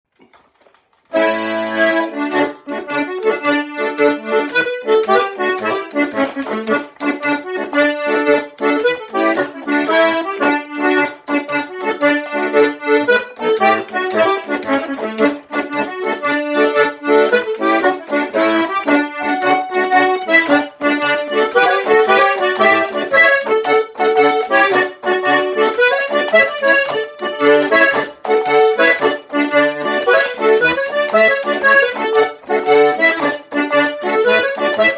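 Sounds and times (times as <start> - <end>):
accordion folk dance tune: 1.1 - 34.9.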